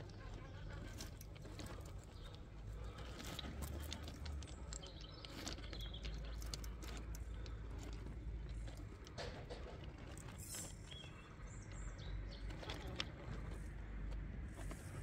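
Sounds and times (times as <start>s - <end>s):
pebbles crunching under tyres: 0.0s - 15.0s
steady low rumble: 0.0s - 15.0s.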